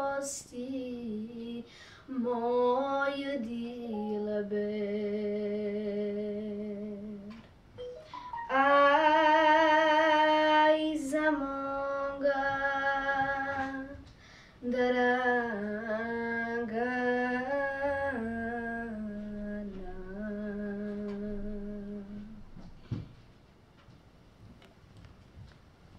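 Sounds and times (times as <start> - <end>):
girl singing unaccompanied: 0.0 - 7.4, 8.4 - 22.6.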